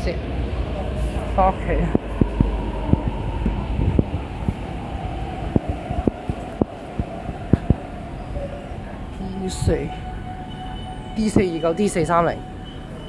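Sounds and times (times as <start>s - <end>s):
steady train hum: 0.0s - 13.0s
train low rumble: 0.0s - 13.0s.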